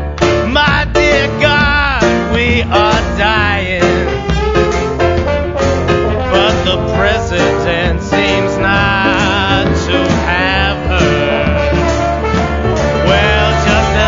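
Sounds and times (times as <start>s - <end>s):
folk-punk band instrumental: 0.0s - 14.0s.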